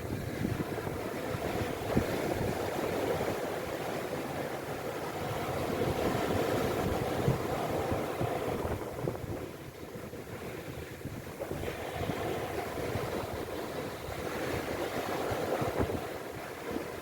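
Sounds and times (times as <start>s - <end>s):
wind on microphone: 0.0s - 4.0s, 5.2s - 17.0s
sea surf washing in: 0.0s - 17.0s.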